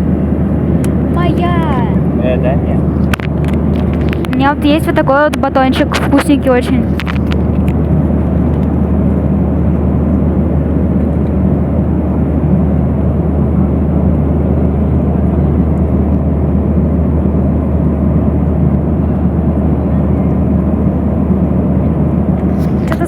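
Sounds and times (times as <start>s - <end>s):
airliner cabin hum and air rush: 0.0s - 23.0s.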